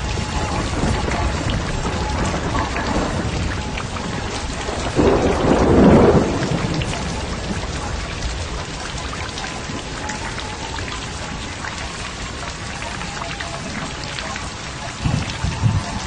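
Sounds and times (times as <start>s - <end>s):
thunder rolling: 0.0s - 12.9s, 13.6s - 16.0s
heavy rain: 0.0s - 16.0s.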